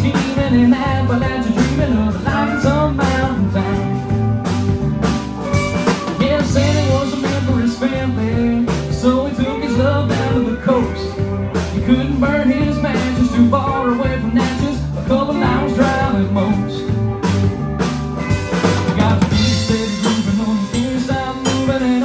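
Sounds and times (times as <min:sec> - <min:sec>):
person singing lead: 0:00.0 - 0:04.4, 0:05.8 - 0:17.5, 0:18.8 - 0:22.0
drum kit beat: 0:00.0 - 0:22.0
electric bass: 0:00.0 - 0:22.0
electric guitars: 0:00.0 - 0:22.0.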